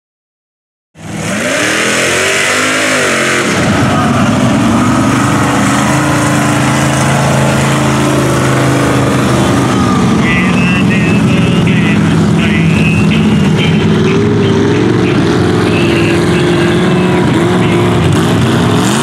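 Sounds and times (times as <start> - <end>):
pickup truck engine revving: 1.0 - 19.0.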